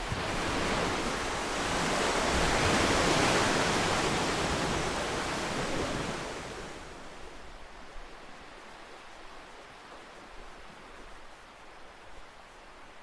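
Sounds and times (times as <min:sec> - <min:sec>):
ocean waves washing on shore: 0:00.0 - 0:13.0.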